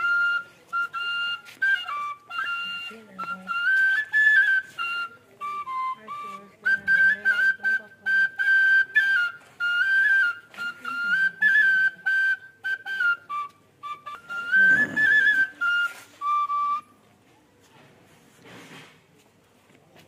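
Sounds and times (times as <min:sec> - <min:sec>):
bamboo flute melody: 0:00.0 - 0:17.8.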